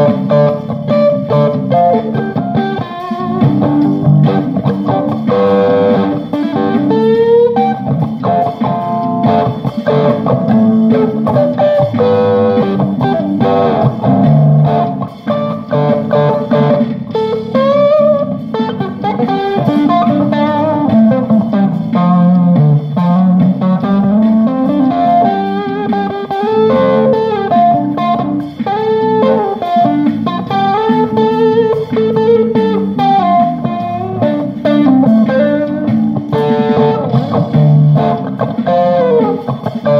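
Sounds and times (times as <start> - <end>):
electric guitar lead notes: 0.0 - 39.9.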